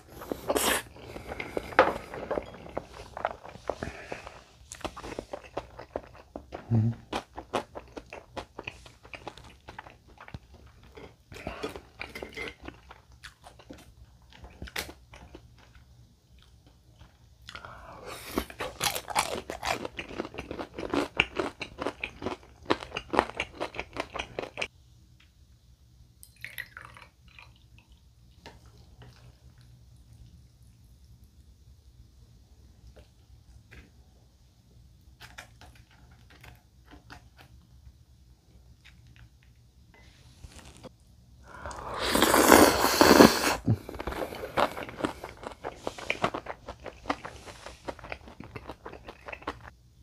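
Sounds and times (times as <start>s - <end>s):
chewing and crunching fried food: 0.0s - 24.7s, 26.4s - 31.6s, 35.0s - 39.8s, 41.5s - 49.8s.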